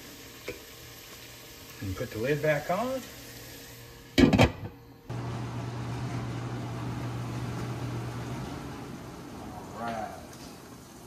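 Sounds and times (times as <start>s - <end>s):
range hood fan hum: 0.0s - 11.0s.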